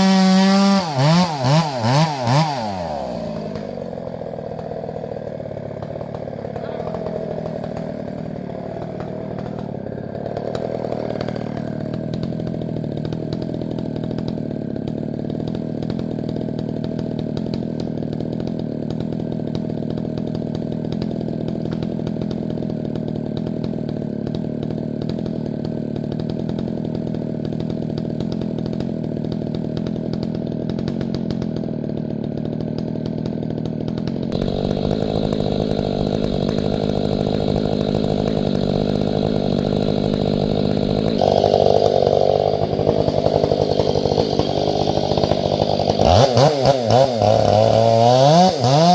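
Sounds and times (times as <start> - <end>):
chainsaw running at high speed: 0.0 - 48.9.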